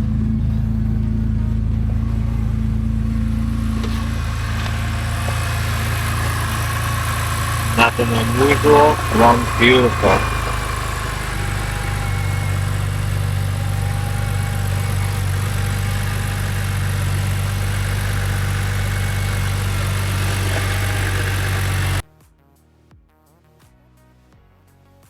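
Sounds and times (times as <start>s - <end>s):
car engine idling: 1.5s - 22.0s.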